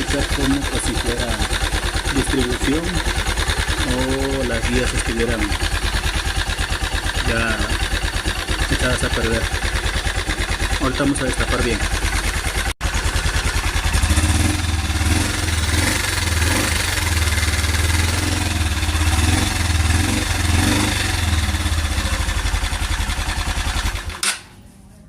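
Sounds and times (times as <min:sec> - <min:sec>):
motorcycle engine idling with rattle: 0:00.0 - 0:25.0.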